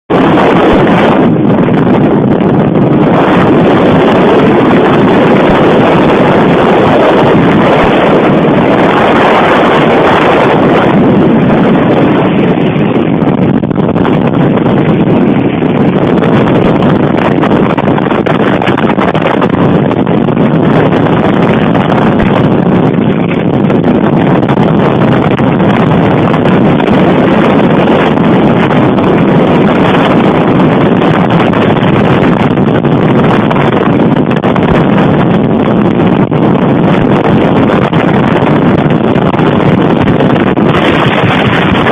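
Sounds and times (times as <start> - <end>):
loud steady rushing noise: 0.0 - 41.9.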